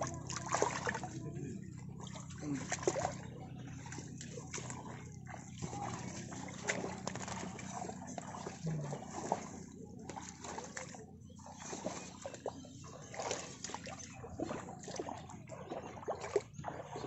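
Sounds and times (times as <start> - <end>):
muddy water splashing: 0.0 - 17.0.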